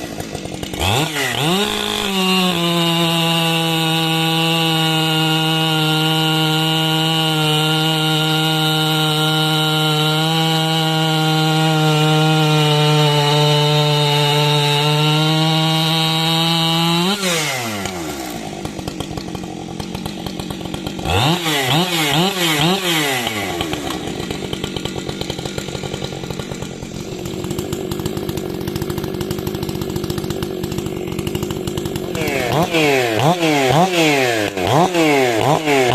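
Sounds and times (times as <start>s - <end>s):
chainsaw revving and idling: 0.0s - 35.9s.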